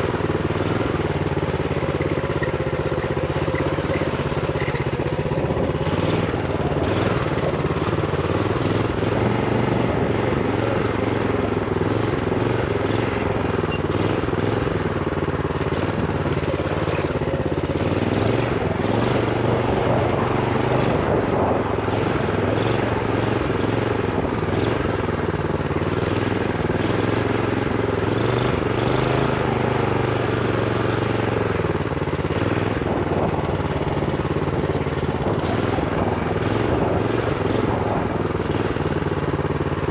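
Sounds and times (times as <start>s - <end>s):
minibike engine at low revs: 0.0s - 39.9s.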